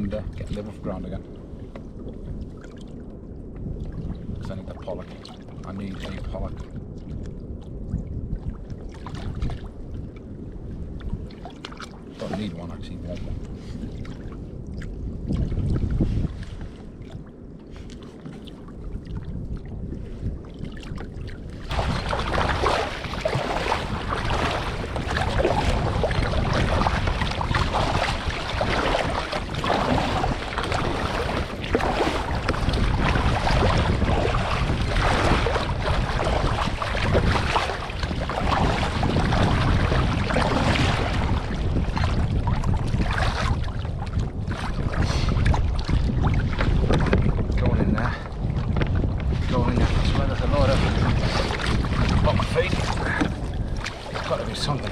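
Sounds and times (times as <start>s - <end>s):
water sloshing around kayak: 0.0s - 54.9s
wind on microphone: 0.0s - 54.9s.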